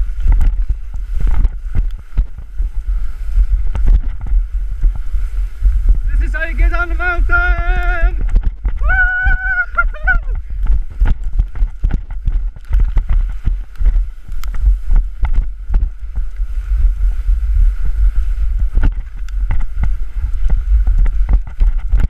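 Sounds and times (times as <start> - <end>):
body sliding over snow: 0.0 - 22.0
wind buffeting microphone: 0.0 - 22.0.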